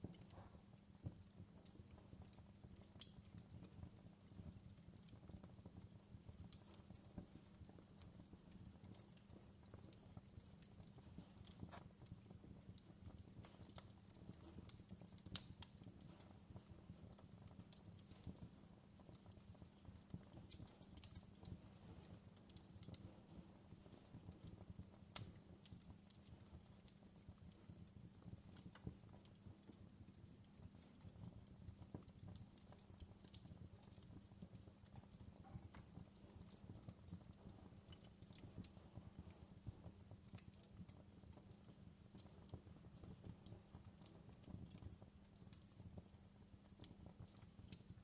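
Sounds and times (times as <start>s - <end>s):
fireplace crackling: 0.0s - 48.0s.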